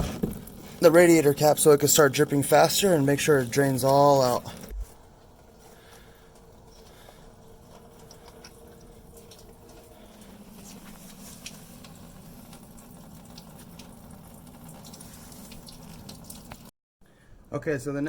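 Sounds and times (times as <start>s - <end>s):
coolant trickling into pan: 0.0s - 16.7s
drips: 0.0s - 16.7s.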